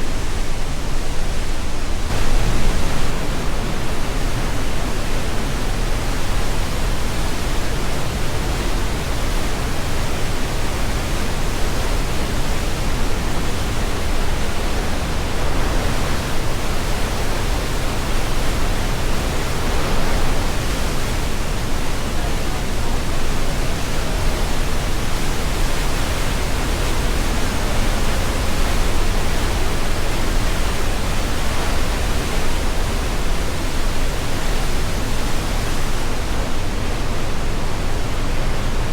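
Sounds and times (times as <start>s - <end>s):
white water roaring through gorge: 0.0s - 38.9s.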